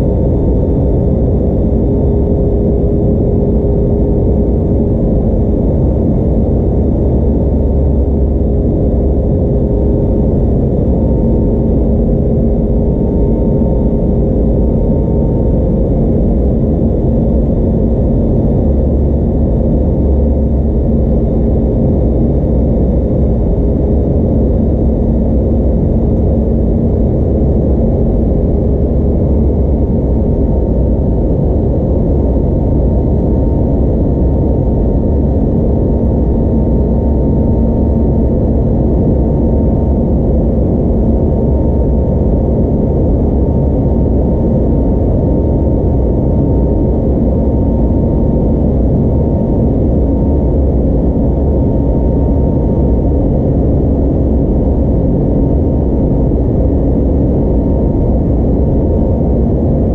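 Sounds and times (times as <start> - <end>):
jet engine cabin roar: 0.0 - 59.9
thin steady hum: 0.0 - 59.9.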